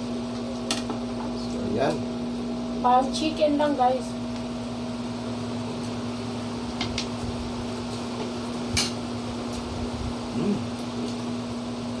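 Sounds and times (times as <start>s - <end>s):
electric appliance humming: 0.0s - 12.0s.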